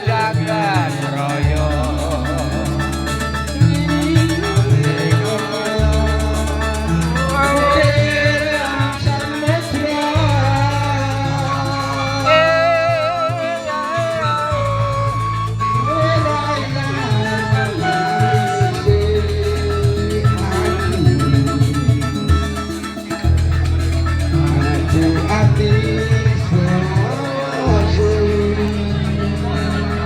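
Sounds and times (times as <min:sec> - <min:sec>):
band with bass line: 0:00.0 - 0:30.0
person singing with vibrato: 0:00.0 - 0:30.0.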